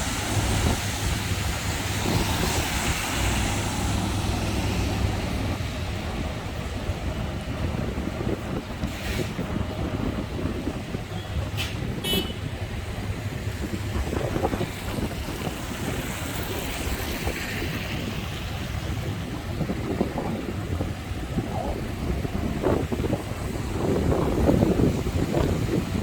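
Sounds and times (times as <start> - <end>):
street traffic: 0.0 - 26.0
wind rumbling on microphone: 0.0 - 26.0.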